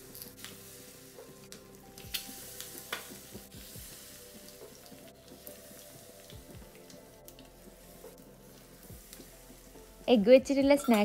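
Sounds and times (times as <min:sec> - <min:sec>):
eggs sizzling in hot oil: 0:00.0 - 0:11.0.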